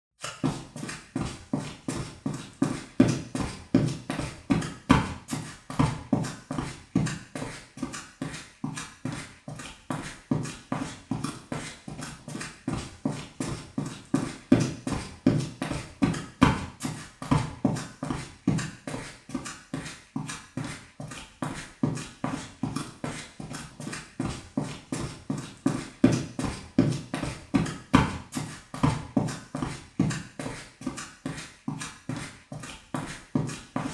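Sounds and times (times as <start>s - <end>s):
footsteps running on wooden floor: 0.2s - 33.9s.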